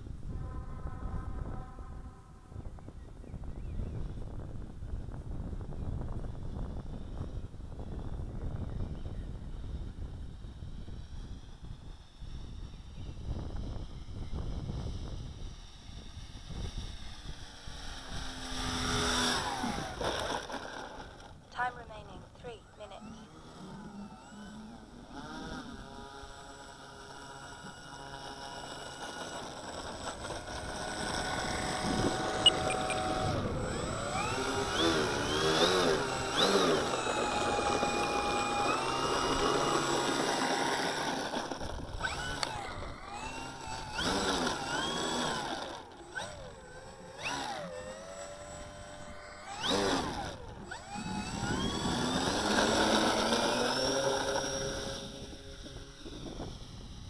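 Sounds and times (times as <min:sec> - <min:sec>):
model aircraft motors whining: 0:00.0 - 0:57.0.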